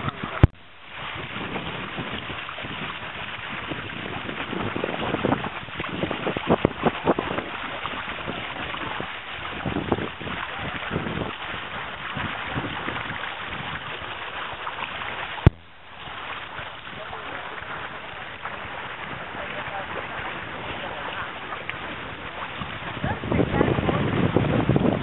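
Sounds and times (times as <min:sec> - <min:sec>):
water rushing along hulls: 0:00.0 - 0:25.0
wind buffeting microphone: 0:00.0 - 0:25.0.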